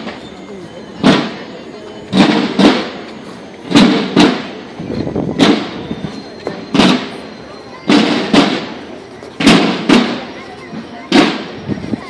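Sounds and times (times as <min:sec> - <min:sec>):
processional drums beating: 0:00.0 - 0:12.0.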